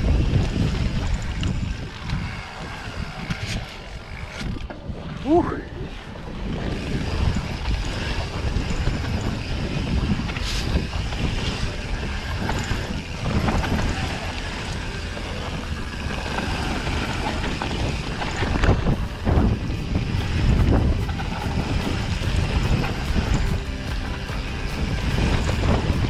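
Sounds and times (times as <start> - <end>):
bike rattling and knocking: 0.0 - 5.1, 6.2 - 26.0
wind rushing over microphone: 0.0 - 26.0.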